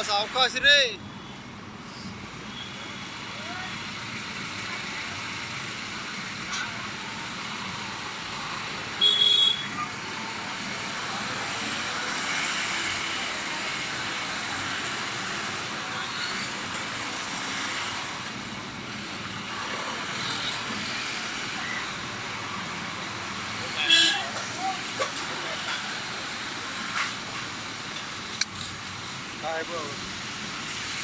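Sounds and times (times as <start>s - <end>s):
vehicles moving on road: 0.0s - 31.0s.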